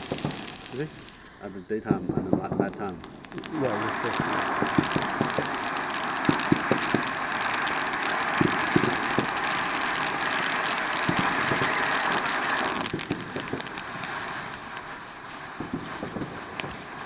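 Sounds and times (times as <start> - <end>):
small pops: 0.0 - 17.0
smoke firework hissing: 0.0 - 17.0.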